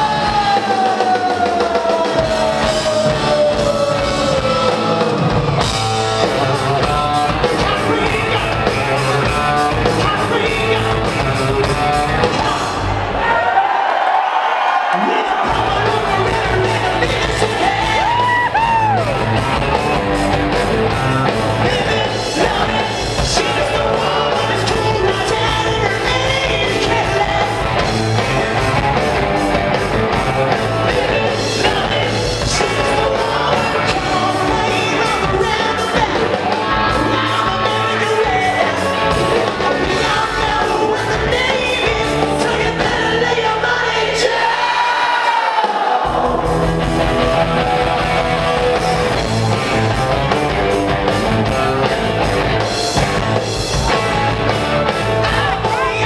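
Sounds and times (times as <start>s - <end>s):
live rock band: 0.0s - 13.8s, 14.4s - 56.0s.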